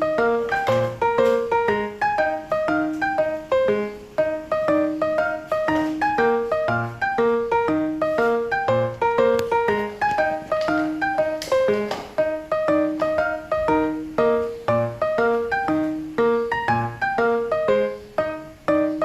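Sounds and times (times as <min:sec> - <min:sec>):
piano playing repeating pattern: 0:00.0 - 0:19.0.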